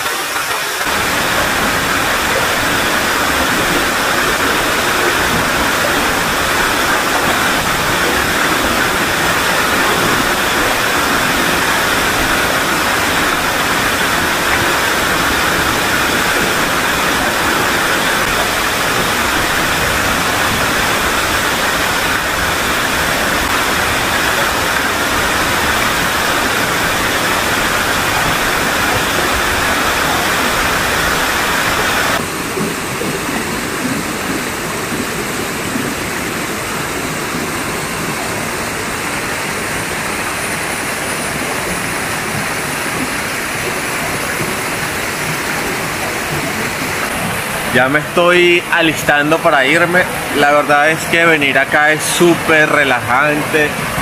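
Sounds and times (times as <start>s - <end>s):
stream running over rocks: 0.0s - 54.0s
waterfall rushing: 0.0s - 54.0s.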